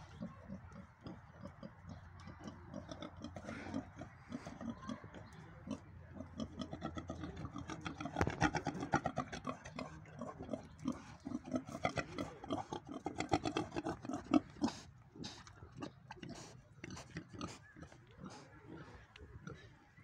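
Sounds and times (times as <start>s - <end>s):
pig grunting: 0.0s - 19.8s.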